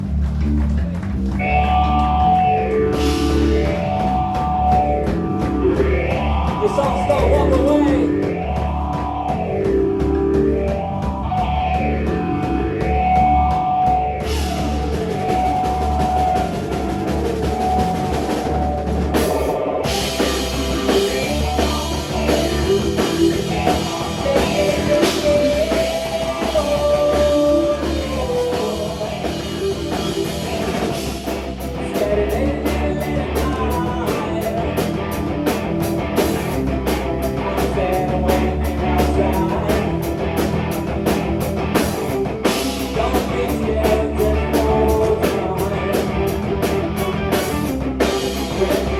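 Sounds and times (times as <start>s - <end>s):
drum kit beat: 0.0s - 48.9s
rock band playing: 0.0s - 48.9s.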